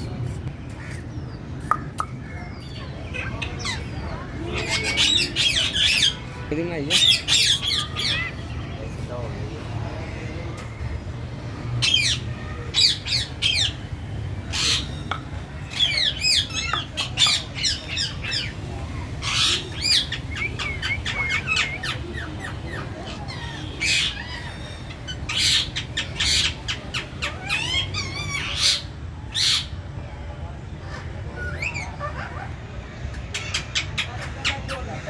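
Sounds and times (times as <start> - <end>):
birds squawking and chirping: 0.0 - 35.0.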